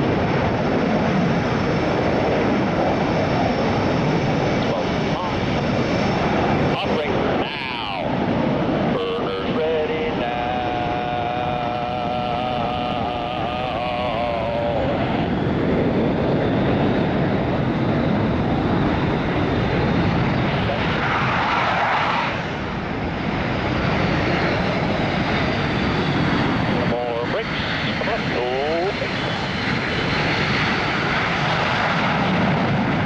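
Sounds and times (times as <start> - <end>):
jet engines with afterburner: 0.0 - 33.0
wavering whine: 0.0 - 33.0.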